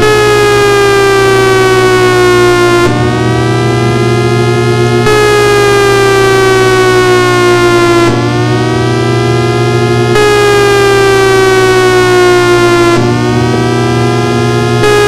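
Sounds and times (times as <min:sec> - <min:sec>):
civil defense siren tone: 0:00.0 - 0:15.0.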